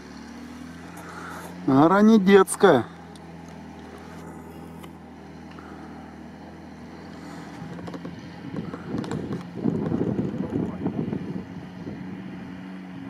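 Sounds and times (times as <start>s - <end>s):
engine running hard under load: 0.0s - 13.0s.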